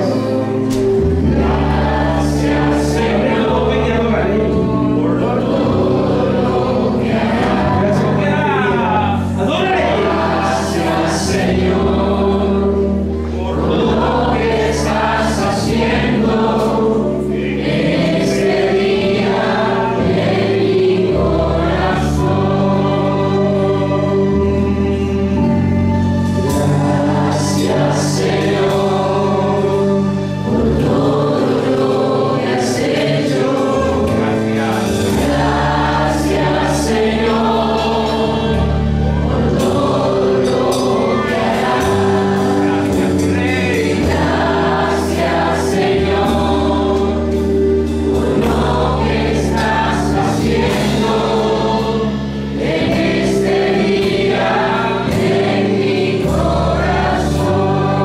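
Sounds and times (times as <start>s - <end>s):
instrumental backing: 0.0s - 58.0s
voices singing worship music: 0.0s - 58.0s.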